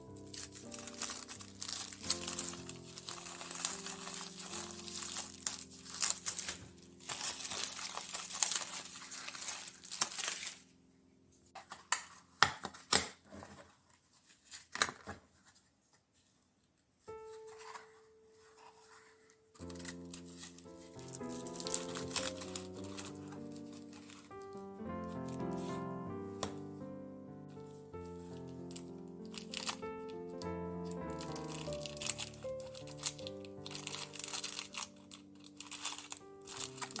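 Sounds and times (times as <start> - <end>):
crinkly material crumpled: 0.0 - 10.8, 13.3 - 37.0
soft background music: 0.0 - 12.5, 17.1 - 37.0.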